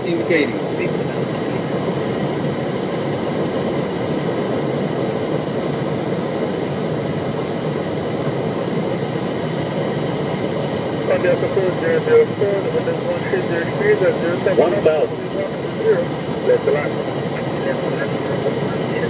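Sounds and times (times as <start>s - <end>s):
jet cockpit rushing noise: 0.0s - 19.0s.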